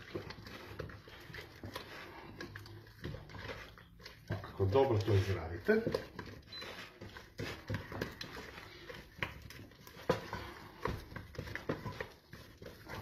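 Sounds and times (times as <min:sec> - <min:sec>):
spatula scraping metal pot: 0:00.0 - 0:13.0.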